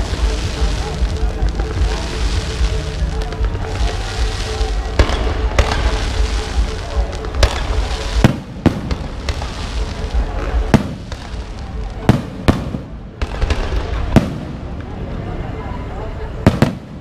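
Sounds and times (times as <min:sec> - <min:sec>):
fireworks bangs: 0:00.0 - 0:15.3, 0:16.4 - 0:17.0
fireworks crackling: 0:00.0 - 0:17.0.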